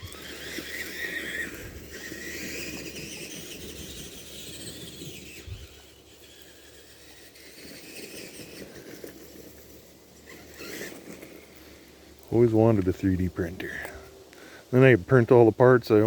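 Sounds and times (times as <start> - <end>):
electric motors whining: 0.0 - 14.9
low steady rustle: 0.0 - 16.0.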